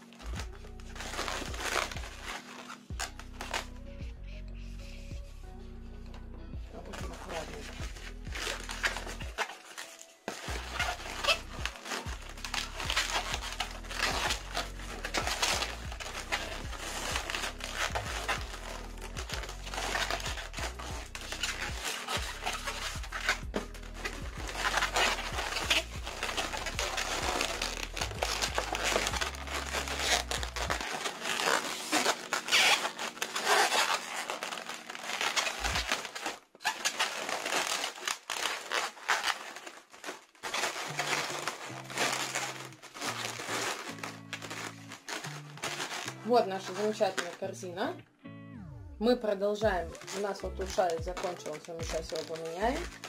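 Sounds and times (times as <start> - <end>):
balloons squeaking and crinkling: 0.0 - 48.0, 49.0 - 53.0
background music: 0.0 - 53.0.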